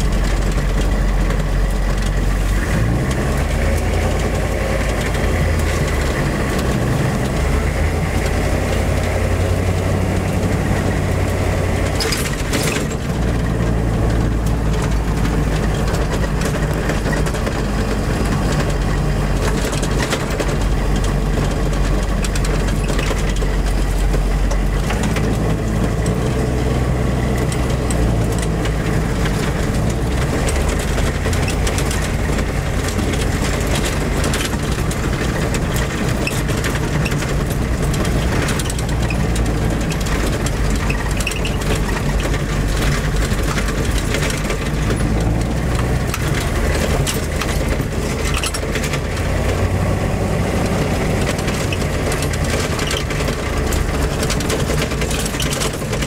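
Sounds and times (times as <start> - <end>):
diesel engine driving: 0.0 - 56.0
light rattles and clicks: 0.0 - 56.0.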